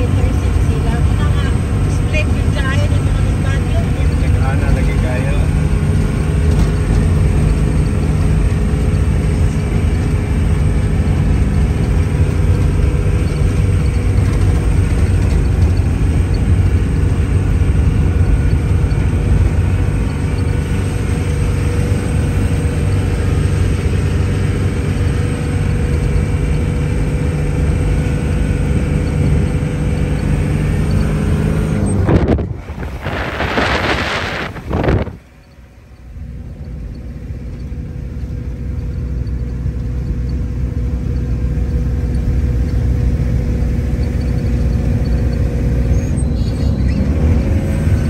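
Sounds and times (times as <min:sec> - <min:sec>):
road noise: 0:00.0 - 0:48.0
vehicle engine running: 0:00.0 - 0:48.0.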